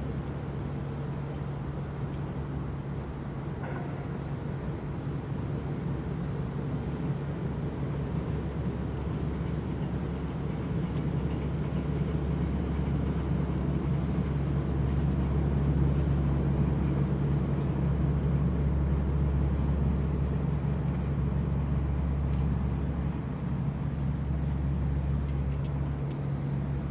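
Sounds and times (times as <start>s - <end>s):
ship machinery drone: 0.0s - 26.9s.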